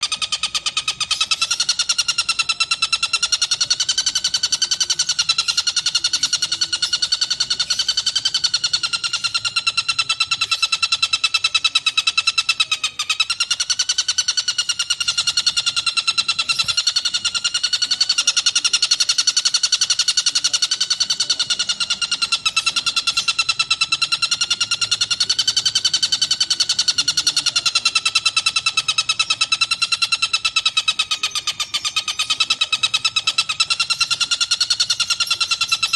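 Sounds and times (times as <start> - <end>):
kingfisher rattling trill: 0.0 - 35.9.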